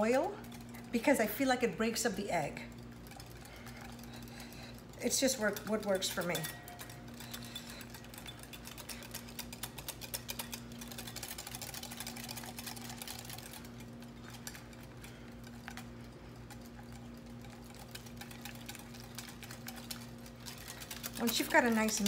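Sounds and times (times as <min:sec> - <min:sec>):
whisk clicking against glass bowl: 0:02.7 - 0:22.0.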